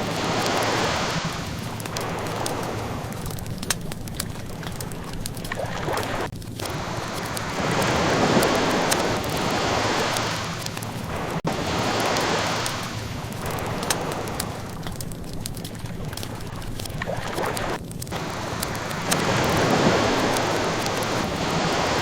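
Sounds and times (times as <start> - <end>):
ocean waves washing in: 0.0 - 22.0
wood fire crackling and popping: 0.0 - 22.0.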